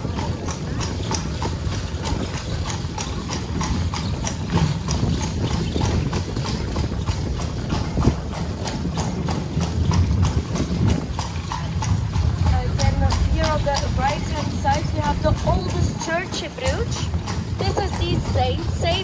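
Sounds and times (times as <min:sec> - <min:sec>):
carriage rumble: 0:00.0 - 0:19.0
horse hooves clip-clopping on cobbles: 0:00.0 - 0:19.0.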